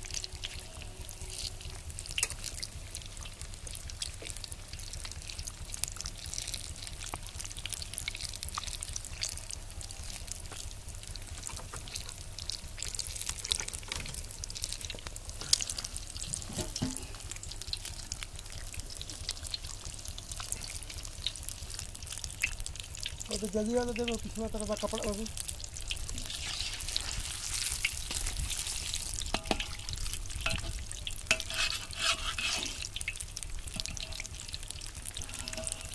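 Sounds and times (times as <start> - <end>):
oil sizzling and crackling: 0.0 - 35.9.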